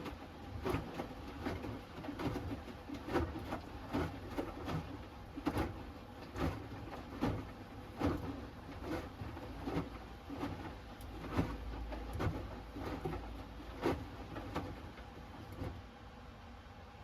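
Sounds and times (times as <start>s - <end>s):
laundry sloshing and thudding in drum: 0.0s - 16.1s
washing machine low hum: 0.0s - 17.0s.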